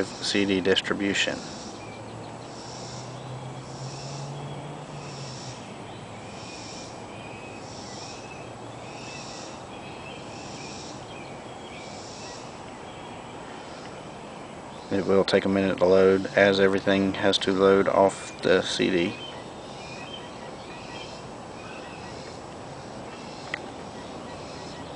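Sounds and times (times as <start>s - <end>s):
background hiss: 0.0s - 24.9s
insects calling: 0.0s - 24.9s.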